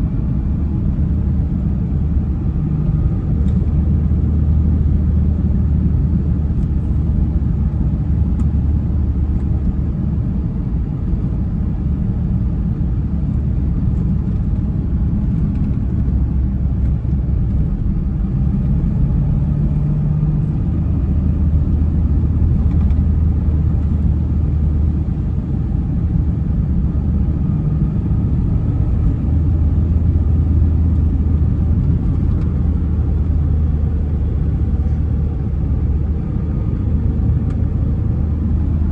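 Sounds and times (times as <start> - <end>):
road rumble: 0.0 - 38.9
truck engine drone: 0.0 - 38.9.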